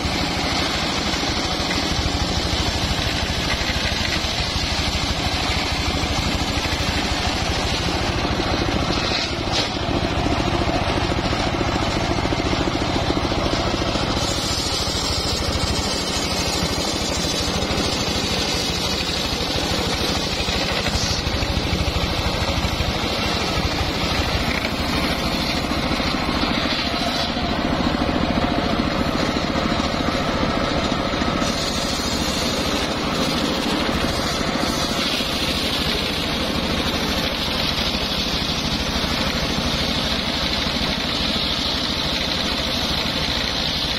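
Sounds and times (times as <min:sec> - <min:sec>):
circular saw ripping a log: 0:00.0 - 0:43.9.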